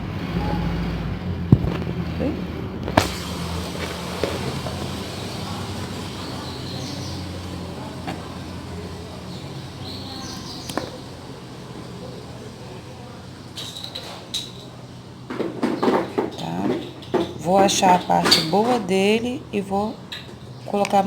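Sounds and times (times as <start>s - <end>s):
engine running low hum: 0.0s - 21.0s.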